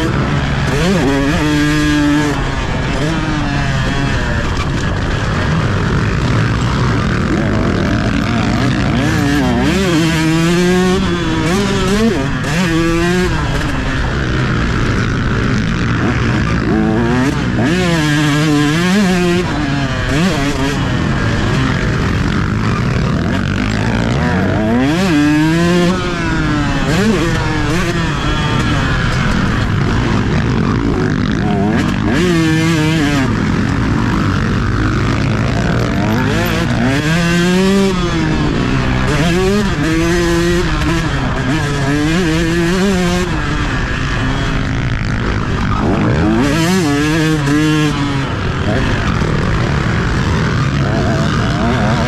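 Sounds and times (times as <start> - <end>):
two-stroke motorbike engine revving: 0.0 - 52.0.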